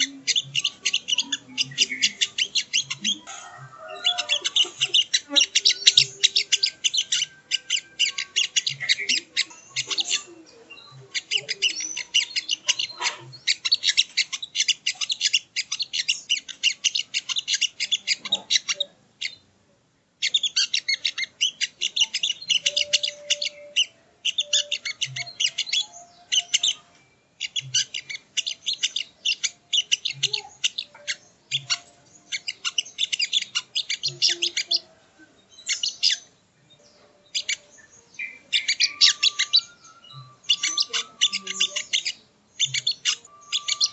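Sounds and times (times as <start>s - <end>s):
songbird chirping rapidly: 0.0s - 19.5s, 20.1s - 43.9s.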